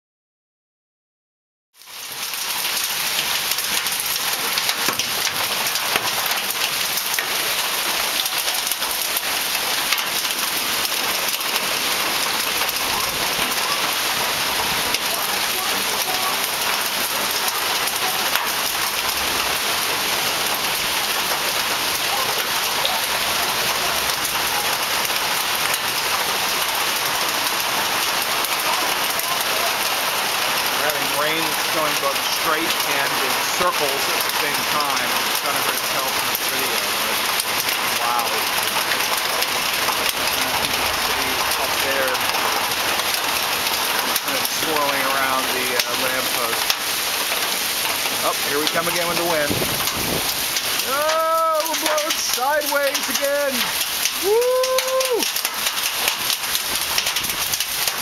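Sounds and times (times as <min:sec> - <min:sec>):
heavy rain and hail pouring: 0:01.8 - 0:58.0.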